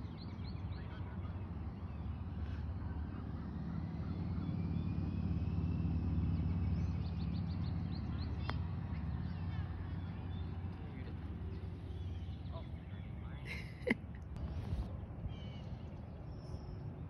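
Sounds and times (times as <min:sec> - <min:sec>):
birds chirping: 0:00.0 - 0:17.0
vehicle engine hum: 0:00.0 - 0:17.0.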